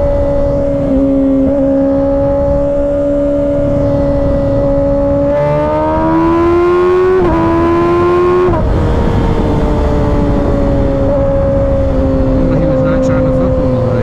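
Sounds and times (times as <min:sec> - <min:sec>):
low wind rush: 0:00.0 - 0:14.0
motorcycle engine accelerating: 0:00.0 - 0:14.0.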